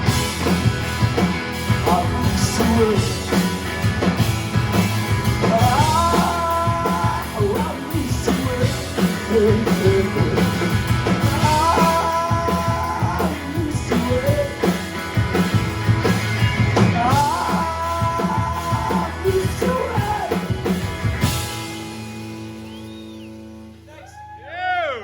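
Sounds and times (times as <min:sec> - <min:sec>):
rock band playing: 0:00.0 - 0:24.3
drums: 0:00.0 - 0:25.0.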